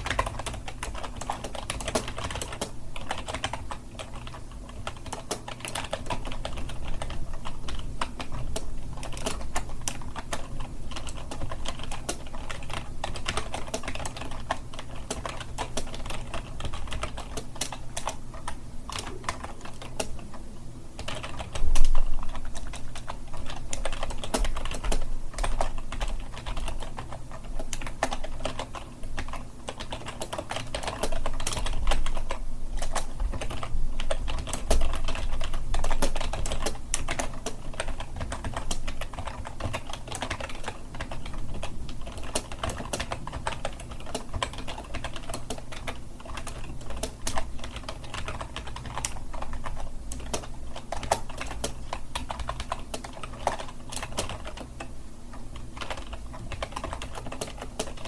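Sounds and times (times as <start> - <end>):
fast keyboard typing: 0.0 - 20.4, 21.0 - 58.0.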